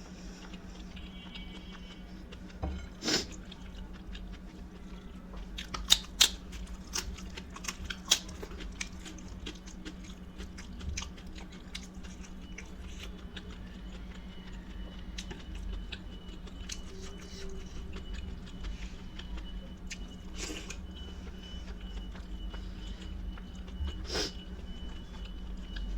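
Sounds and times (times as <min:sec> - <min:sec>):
person chewing: 0:00.0 - 0:25.9.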